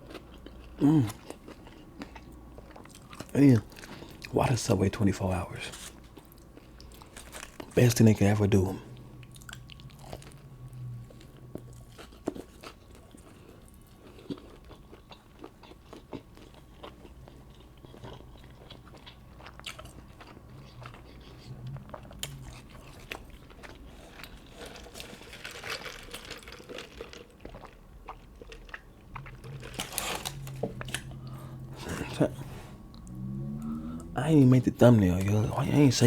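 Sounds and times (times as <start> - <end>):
person chewing sandwich: 0.0 - 4.6, 5.6 - 7.8, 8.7 - 36.0.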